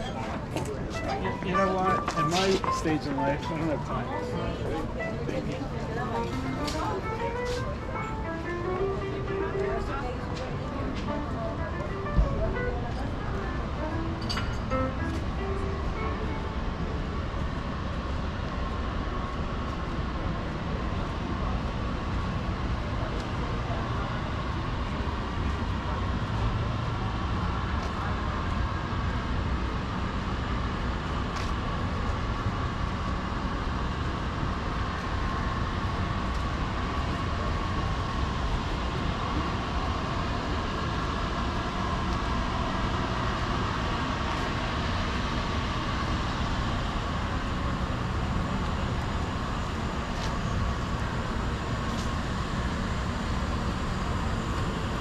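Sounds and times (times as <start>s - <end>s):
traffic noise: 0.0s - 55.0s.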